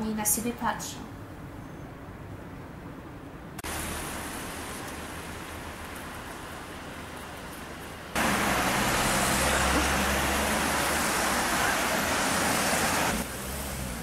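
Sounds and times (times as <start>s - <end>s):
street traffic road noise: 0.0s - 14.0s
vehicle engines humming: 1.2s - 14.0s.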